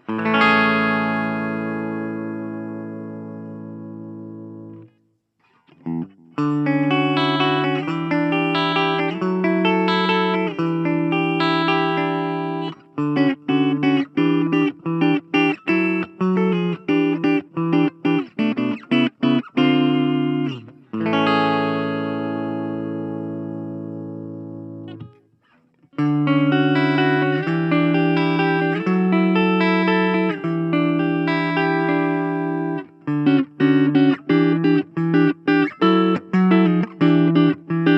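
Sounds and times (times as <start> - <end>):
clean electric guitar chords: 0.0 - 5.0, 5.7 - 25.3, 25.9 - 37.9.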